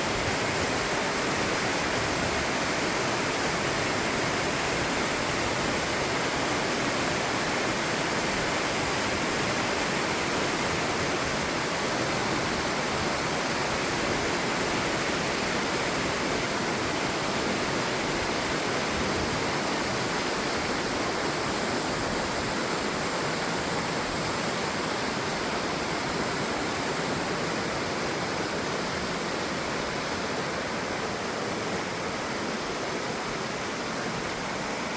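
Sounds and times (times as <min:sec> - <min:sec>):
water rushing over boulders: 0:00.0 - 0:34.9.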